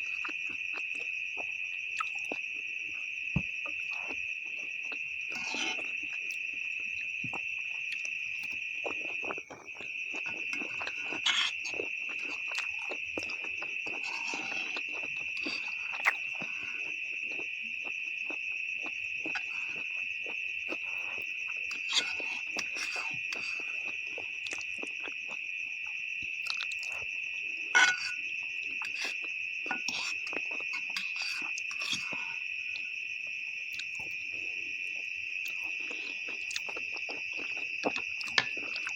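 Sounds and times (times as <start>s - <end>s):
chewing and slurping noodles: 0.1s - 2.4s, 3.4s - 32.9s, 33.7s - 38.9s
insect trilling: 0.1s - 38.9s.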